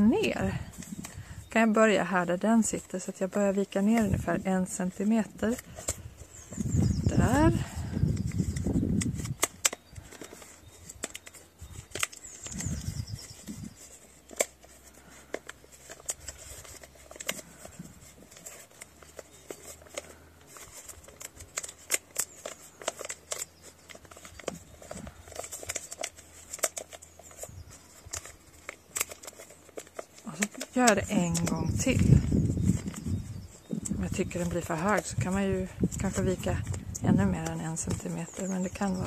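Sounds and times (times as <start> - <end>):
newspaper crinkling: 0.0 - 39.0.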